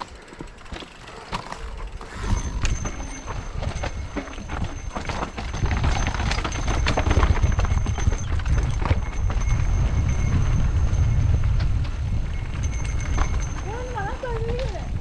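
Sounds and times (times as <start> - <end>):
bike rattling on dirt trail: 0.0 - 15.0
wind rumble on microphone: 1.9 - 15.0.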